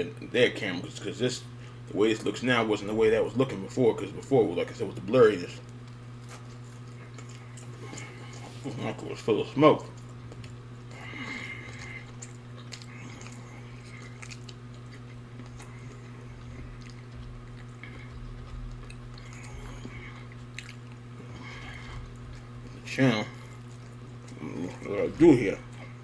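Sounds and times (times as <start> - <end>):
steady low hum: 0.0 - 26.0
person chewing food: 4.9 - 26.0.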